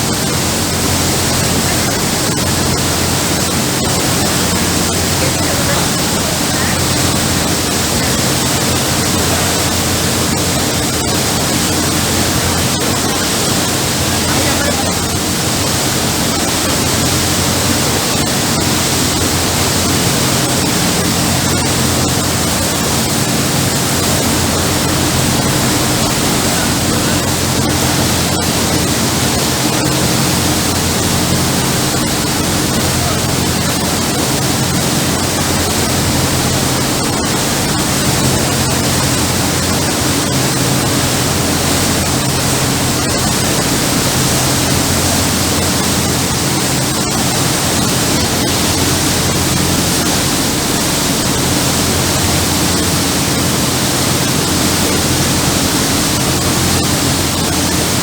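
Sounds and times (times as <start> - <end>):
boat engine droning: 0.0 - 58.0
rushing wind and water: 0.0 - 58.0.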